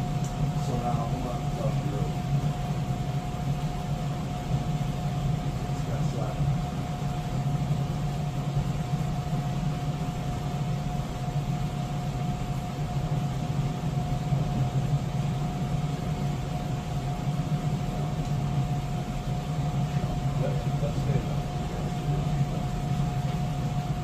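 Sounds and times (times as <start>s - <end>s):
low machine hum: 0.0s - 24.0s
thin constant whine: 0.0s - 24.0s.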